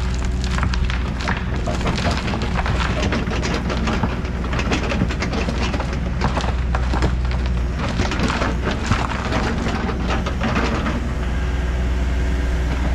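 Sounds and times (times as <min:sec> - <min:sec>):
soil and stones pouring: 0:00.0 - 0:11.2
diesel engine running: 0:00.0 - 0:12.9.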